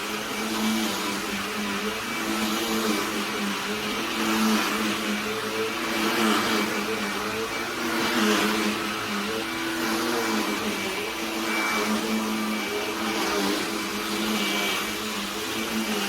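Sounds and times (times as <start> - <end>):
handheld vacuum cleaner whine: 0.0 - 16.0.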